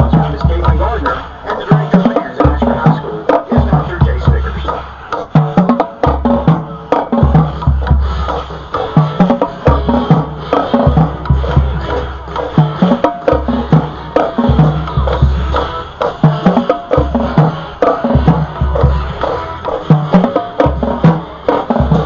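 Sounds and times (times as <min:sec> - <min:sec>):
marching band music: 0:00.0 - 0:22.0.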